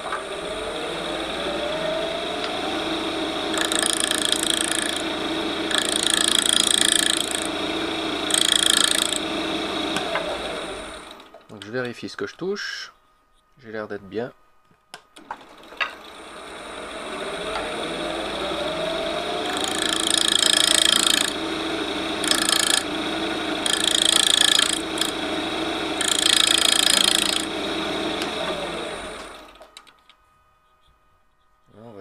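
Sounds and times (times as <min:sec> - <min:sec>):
turning tool cutting wood: 0:00.0 - 0:11.8, 0:15.2 - 0:29.8
wood lathe whining: 0:00.0 - 0:11.8, 0:15.2 - 0:29.9.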